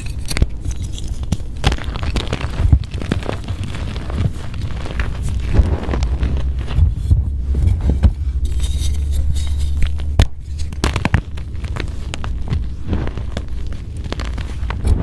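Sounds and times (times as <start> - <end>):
chalk cracking: 0.0 - 15.0
chalk crunching and crackling: 0.0 - 15.0
low rumble: 1.8 - 15.0.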